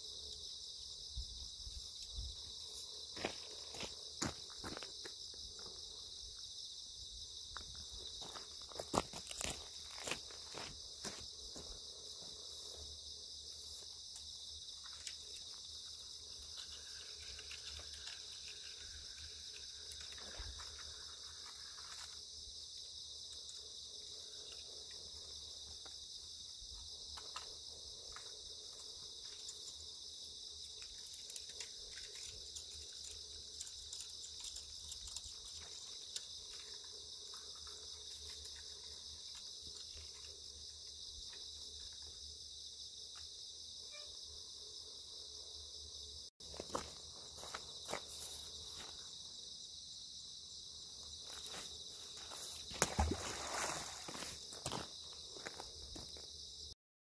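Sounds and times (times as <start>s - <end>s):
insect chorus chirring: 0.0s - 56.8s.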